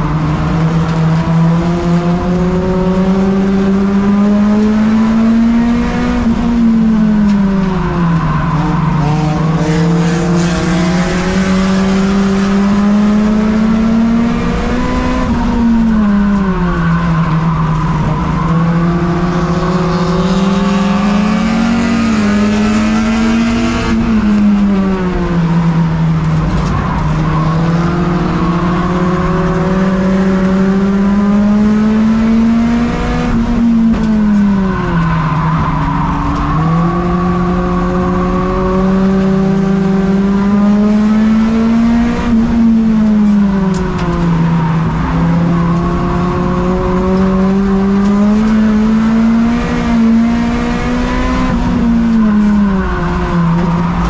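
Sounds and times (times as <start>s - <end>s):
race car engine revving: 0.0s - 54.0s
road and wind noise: 0.0s - 54.0s.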